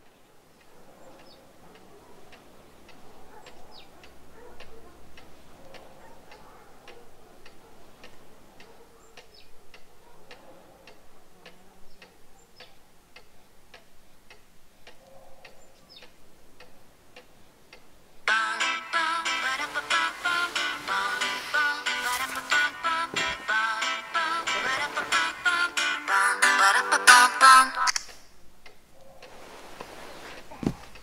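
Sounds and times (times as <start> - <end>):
clock ticking: 0.6 - 28.8.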